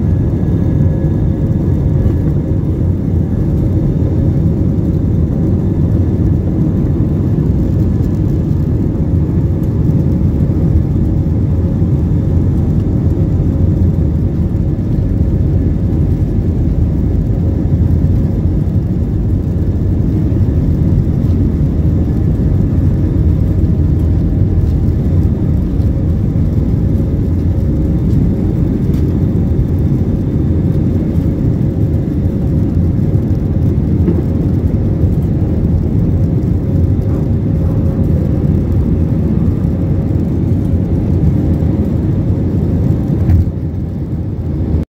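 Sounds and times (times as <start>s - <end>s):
jet engines and airflow rumble: 0.0s - 44.9s.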